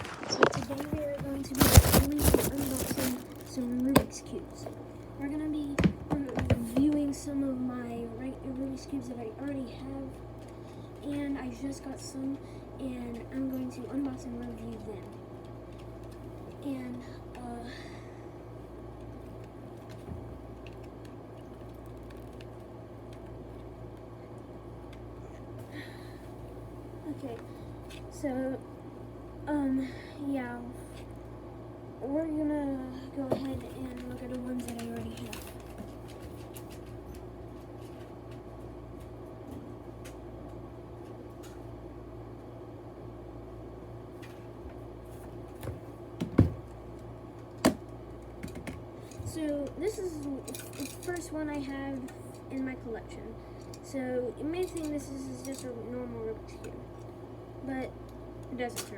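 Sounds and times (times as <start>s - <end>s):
low electrical hum: 0.0s - 58.9s.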